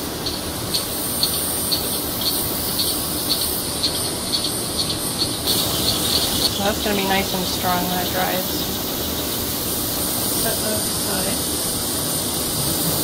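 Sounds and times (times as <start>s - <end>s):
cicadas hissing: 0.0s - 13.0s
pulsing cicada chirp: 0.0s - 13.0s.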